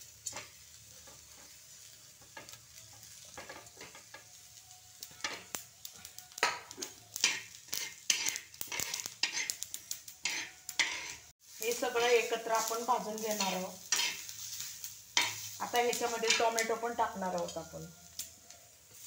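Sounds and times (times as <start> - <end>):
light sizzle: 0.0 - 19.0
spatula scraping on a hot pan: 0.0 - 19.0.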